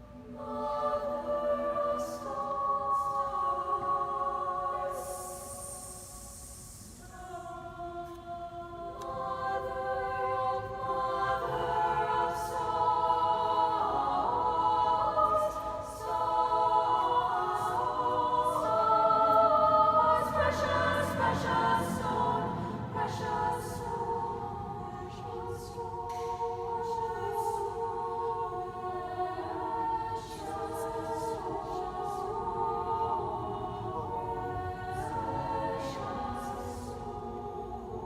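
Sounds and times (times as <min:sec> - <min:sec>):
choir singing held chords: 0:00.0 - 0:38.0.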